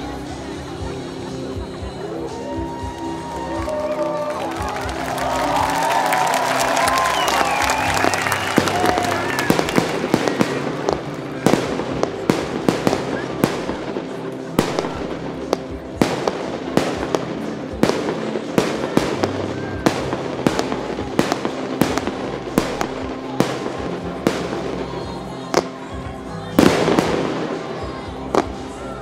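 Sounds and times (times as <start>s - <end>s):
dense firework crackling: 0.0s - 29.0s
music: 0.0s - 29.0s.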